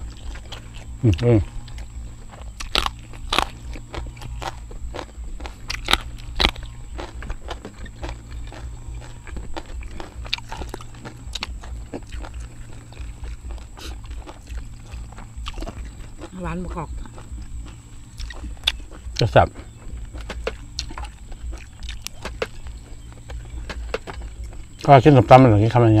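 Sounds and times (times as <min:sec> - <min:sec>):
crunchy chewing: 0:00.0 - 0:26.0.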